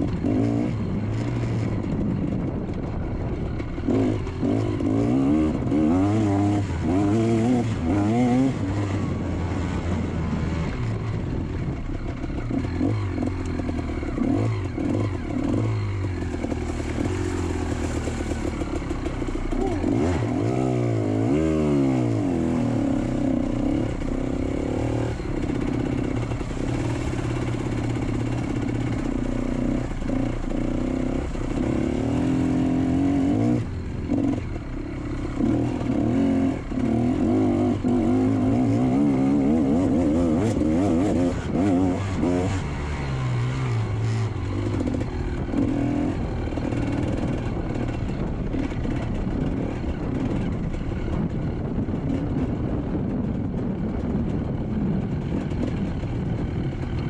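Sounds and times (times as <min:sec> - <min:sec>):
motocross bike engine revving: 0:00.0 - 0:01.8, 0:03.8 - 0:50.5.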